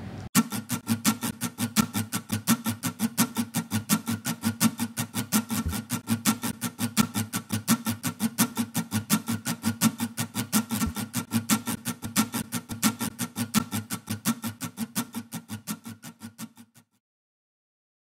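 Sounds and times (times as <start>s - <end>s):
guitar strumming: 0.4s - 16.7s.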